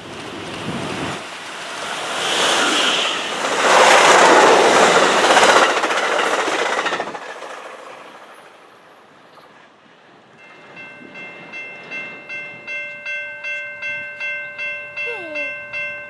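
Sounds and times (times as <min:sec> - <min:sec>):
diesel locomotive passing: 0:00.0 - 0:16.0
train wheels on rails: 0:00.0 - 0:16.0.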